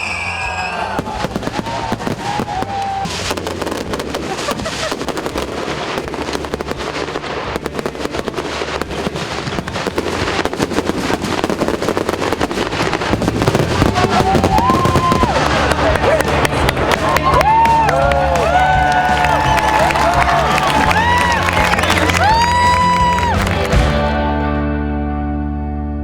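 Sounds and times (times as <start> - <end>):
fireworks crackling and banging: 0.0 - 24.5.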